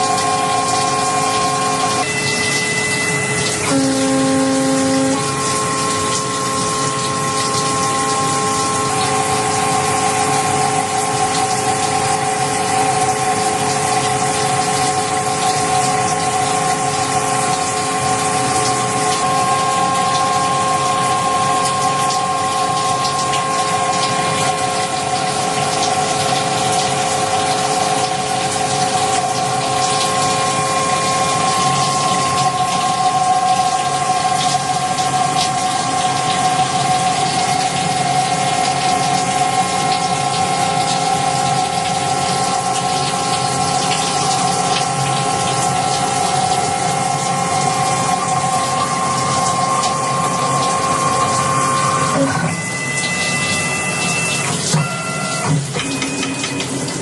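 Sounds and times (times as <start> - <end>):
lathe machine whine: 0.0 - 57.0.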